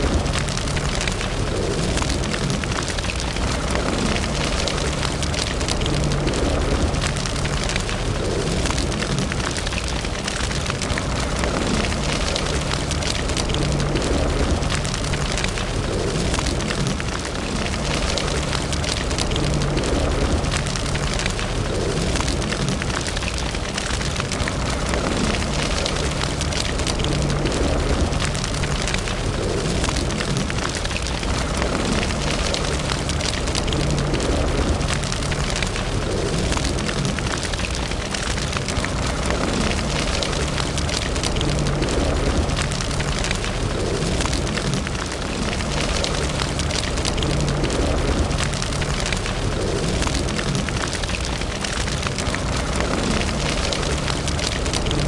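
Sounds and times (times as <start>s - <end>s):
fire flames rumbling: 0.0s - 55.0s
wood fire crackling and popping: 0.0s - 55.0s.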